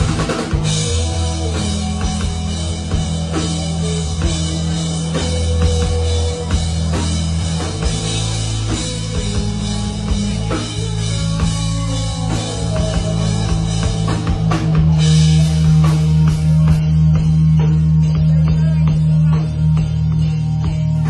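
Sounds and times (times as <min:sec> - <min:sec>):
drum kit: 0:00.0 - 0:21.0
rock band playing: 0:00.0 - 0:21.0.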